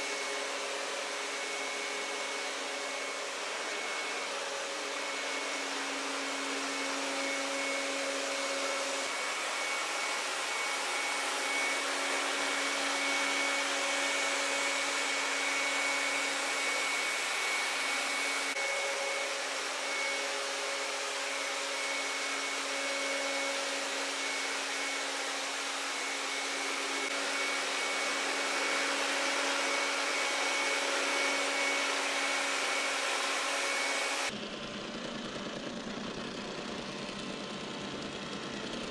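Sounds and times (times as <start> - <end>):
robot vacuum whirring: 0.0 - 34.4.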